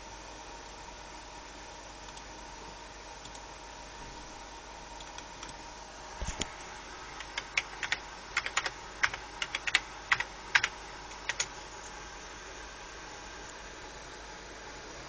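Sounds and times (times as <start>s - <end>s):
fan hiss: 0.0s - 15.0s.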